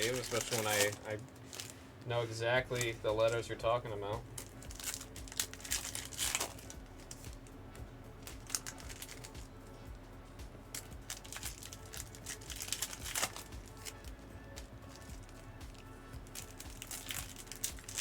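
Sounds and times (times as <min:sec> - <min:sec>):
card wrappers crinkling: 0:00.0 - 0:03.6, 0:04.2 - 0:07.6, 0:08.2 - 0:09.5, 0:10.7 - 0:14.1, 0:14.9 - 0:18.0
cards being handled: 0:00.0 - 0:03.6, 0:04.2 - 0:07.5, 0:08.2 - 0:09.8, 0:10.7 - 0:14.1, 0:14.9 - 0:18.0
quiet background music: 0:00.0 - 0:18.0.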